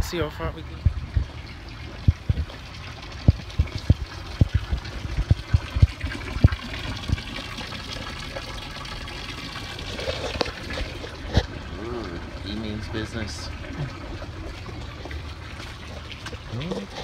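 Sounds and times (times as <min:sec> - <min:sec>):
water trickling from fountain: 0:00.0 - 0:17.0.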